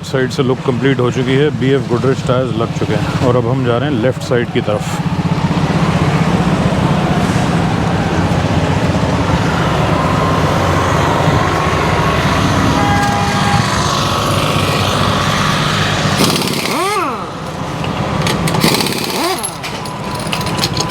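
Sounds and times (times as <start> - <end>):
engine running with pulsing hum: 0.8 - 20.9.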